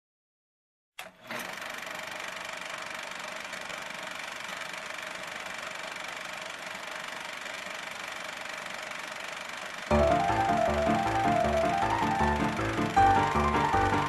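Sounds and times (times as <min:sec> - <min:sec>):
film projector rattling: 0:01.0 - 0:14.0.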